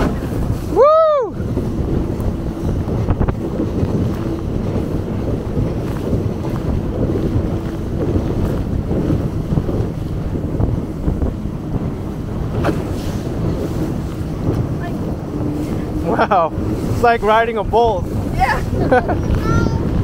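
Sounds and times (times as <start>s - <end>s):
boat motor droning: 0.0s - 20.0s
water rushing: 0.0s - 20.0s
wind buffeting microphone: 0.0s - 20.0s.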